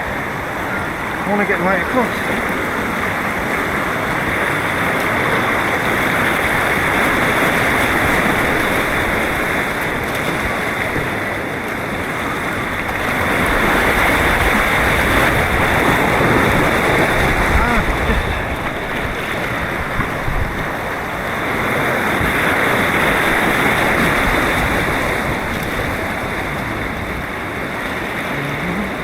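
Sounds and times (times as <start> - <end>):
rushing white water: 0.0 - 29.0.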